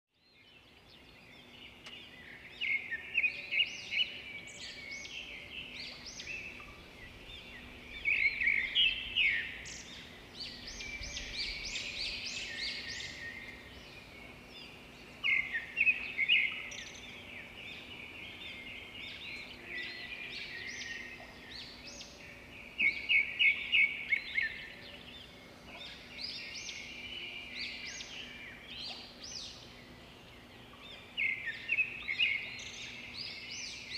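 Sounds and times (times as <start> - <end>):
birds chirping: 0.3 - 33.9.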